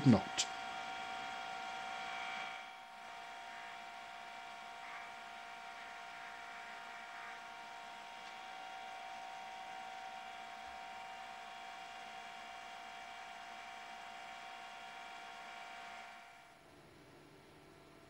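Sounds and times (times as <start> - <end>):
wood lathe whine: 0.0 - 16.7.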